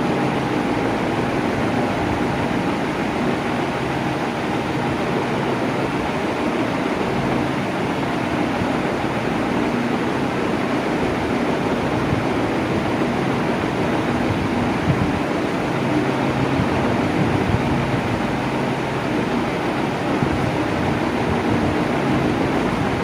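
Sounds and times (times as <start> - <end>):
electric fan air rush: 0.0 - 23.0.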